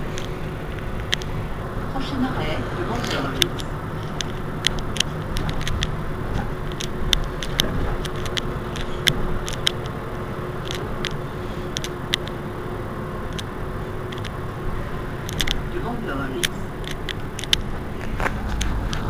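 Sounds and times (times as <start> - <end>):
bus engine rumble and hum: 0.0 - 19.0
sharp clicks and rattles: 0.0 - 19.0.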